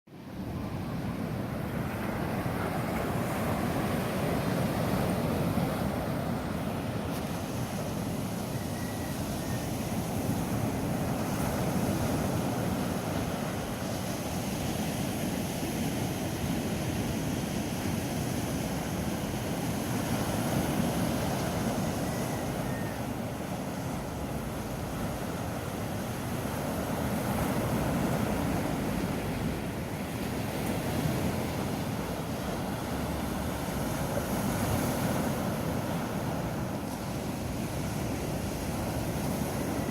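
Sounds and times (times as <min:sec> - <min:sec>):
ocean surf breaking on beach: 0:00.1 - 0:39.9.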